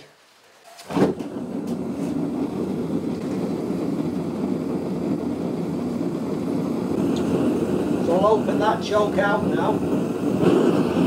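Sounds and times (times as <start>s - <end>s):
gas burner lighting whoosh: 0.7s - 11.0s
gas burner rushing: 0.7s - 11.0s.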